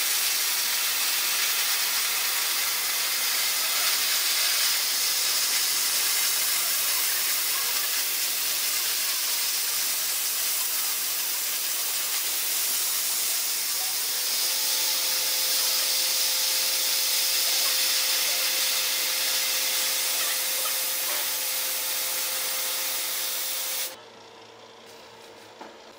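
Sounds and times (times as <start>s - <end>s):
laser cutter gas hiss: 0.0s - 24.0s.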